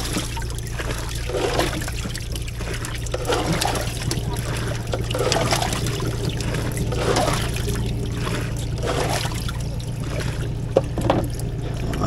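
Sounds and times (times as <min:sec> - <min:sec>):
steady low hum: 0:00.0 - 0:12.0
water splashing and trickling: 0:00.0 - 0:12.0.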